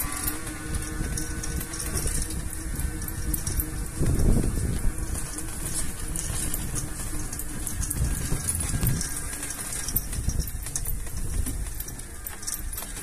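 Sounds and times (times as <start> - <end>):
wind and handling noise: 0.0 - 13.0.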